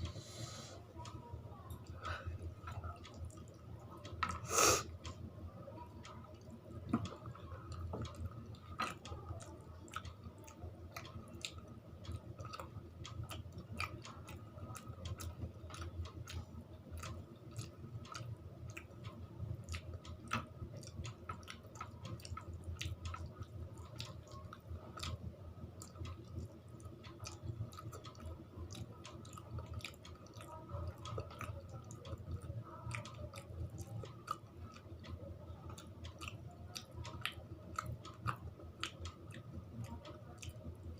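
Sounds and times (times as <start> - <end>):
low steady hum: 0.0 - 40.9
person chewing food: 6.3 - 40.9.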